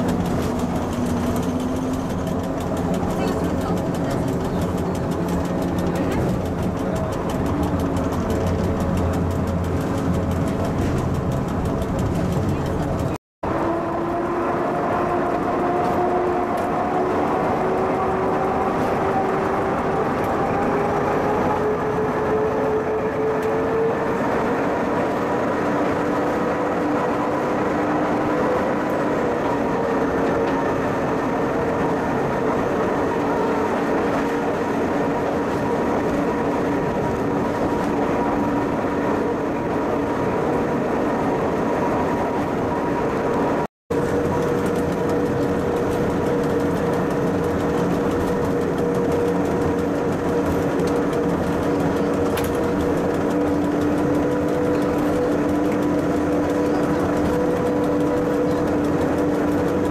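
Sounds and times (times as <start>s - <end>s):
electric railcar drive whine: 0.0s - 59.9s.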